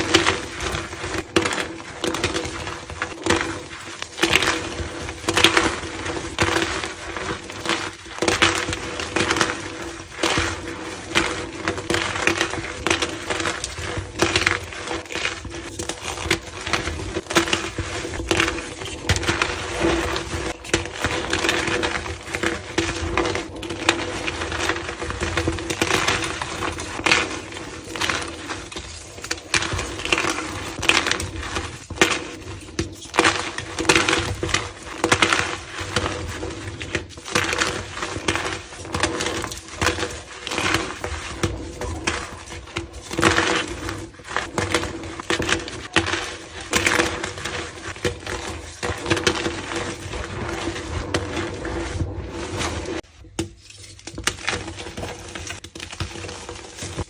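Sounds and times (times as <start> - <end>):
chalk crunching and crackling: 0.0 - 57.0.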